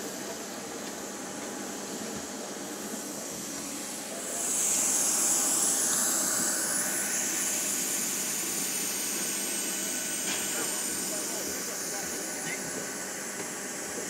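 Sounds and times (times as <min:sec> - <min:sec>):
jet turbine hiss and whine: 0:00.0 - 0:14.0.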